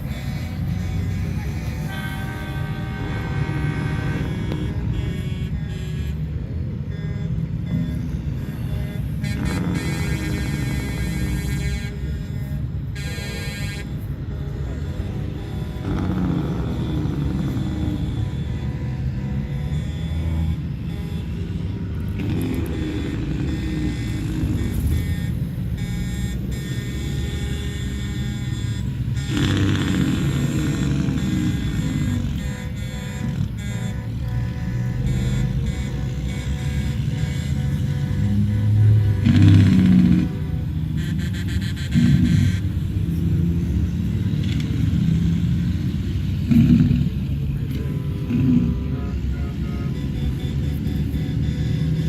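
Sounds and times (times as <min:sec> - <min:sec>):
heavy trucks driving past: 0:00.0 - 0:52.0.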